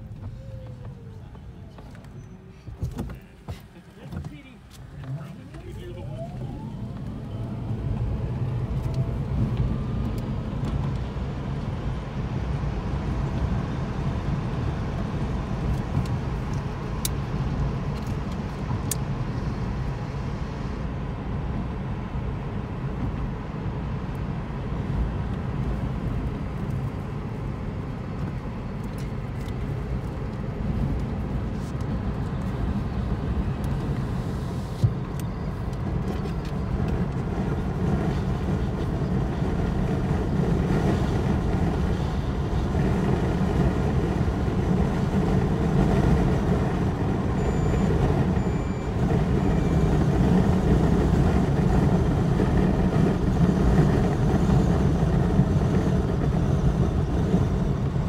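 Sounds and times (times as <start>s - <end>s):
tyre road and wind rumble: 0.0s - 58.0s.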